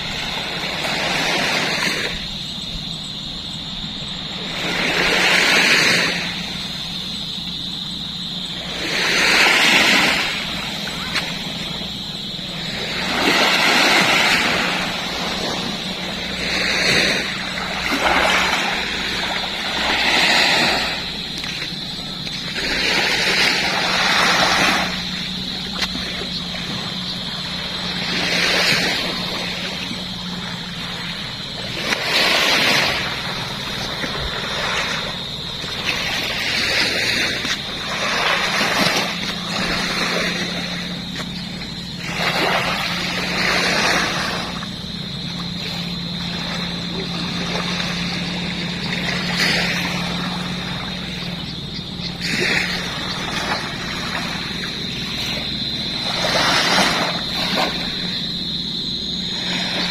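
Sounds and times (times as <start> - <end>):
small waves breaking on beach: 0.0 - 59.9
steady low hum: 0.0 - 59.9.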